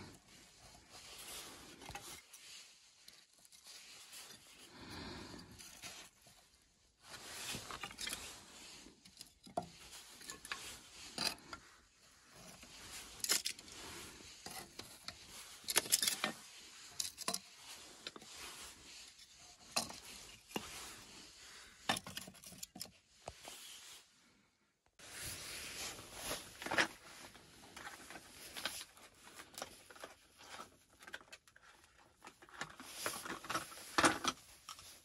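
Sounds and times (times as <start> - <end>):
scraping and rustling: 0.0 - 24.1, 25.0 - 35.0.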